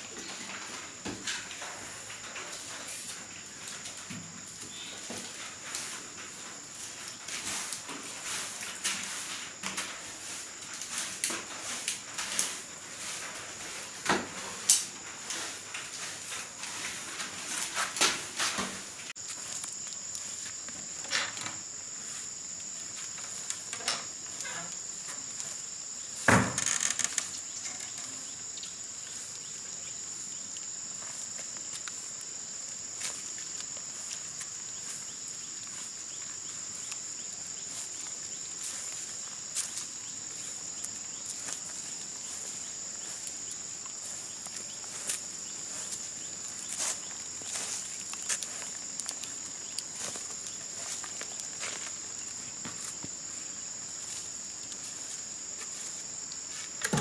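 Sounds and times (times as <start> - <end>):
crickets chirping: 0.0 - 57.0
broom sweeping concrete floor: 0.2 - 26.4, 29.0 - 52.0, 52.6 - 57.0.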